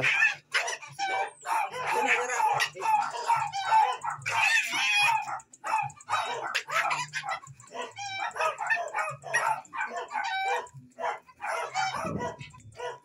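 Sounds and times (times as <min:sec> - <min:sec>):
dog barking and yelping: 0:00.0 - 0:13.0.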